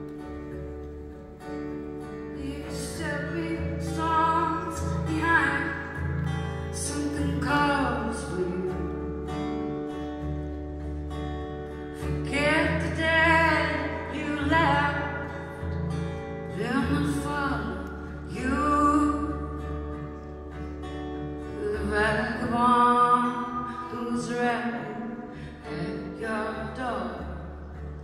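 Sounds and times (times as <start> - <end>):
strummed acoustic guitar: 0.0 - 28.0
woman singing slow song: 2.0 - 9.5, 12.0 - 27.9.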